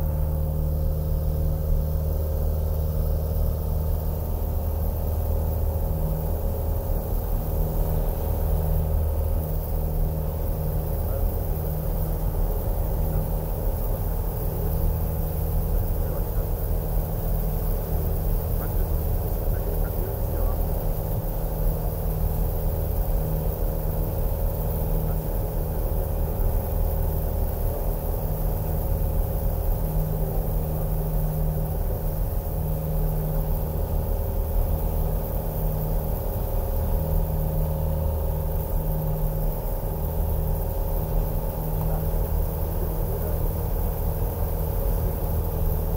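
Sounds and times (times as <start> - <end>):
light aircraft engine droning: 0.0 - 45.9.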